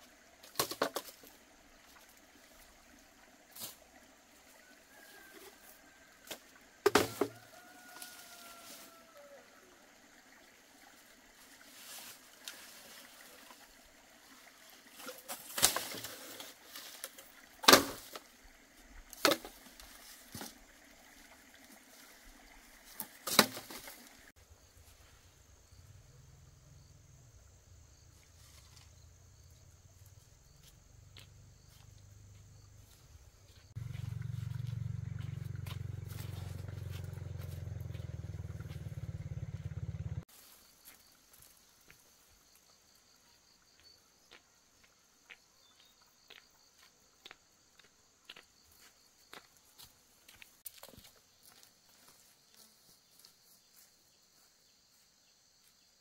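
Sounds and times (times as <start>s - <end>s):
quiet rural background: 0.0s - 56.0s.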